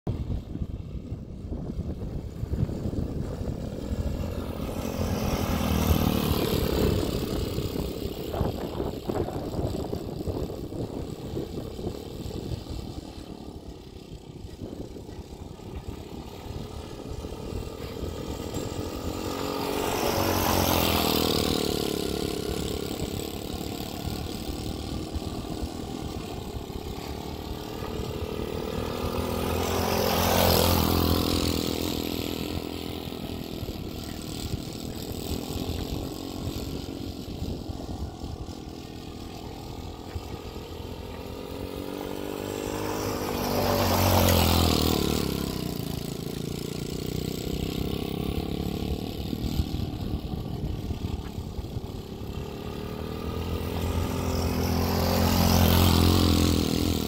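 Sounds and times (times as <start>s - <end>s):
buggy engine running: 0.0s - 57.0s.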